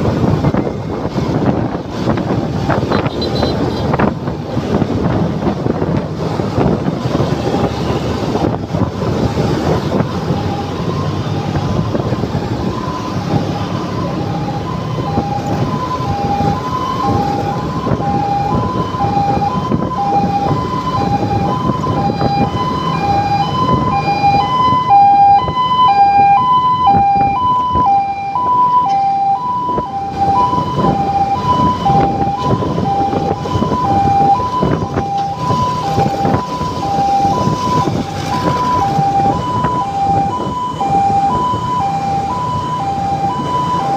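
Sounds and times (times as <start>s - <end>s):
traffic noise: 0.0s - 43.9s
two-tone emergency siren: 0.0s - 43.9s.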